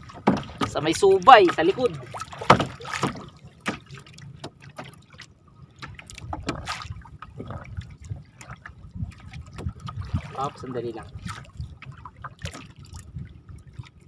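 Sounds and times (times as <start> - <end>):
short sharp splashes: 0.0 - 7.7, 9.3 - 13.0
low steady rumble: 0.0 - 14.0
water splashing and dripping: 0.0 - 14.0.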